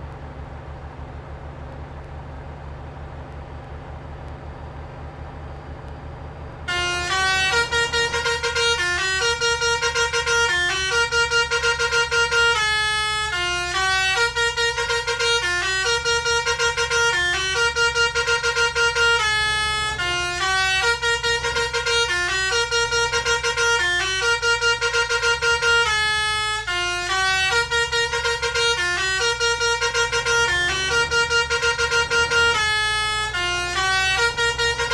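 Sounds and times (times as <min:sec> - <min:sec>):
bus engine drone: 0:00.0 - 0:34.9
musical air horn: 0:06.7 - 0:34.9.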